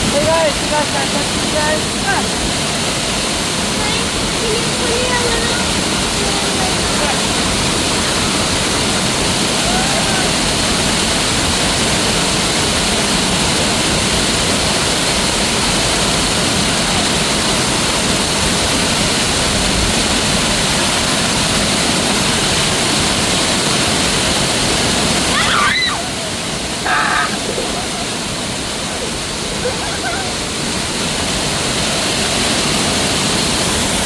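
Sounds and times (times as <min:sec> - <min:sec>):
waterfall pouring: 0:00.0 - 0:34.0.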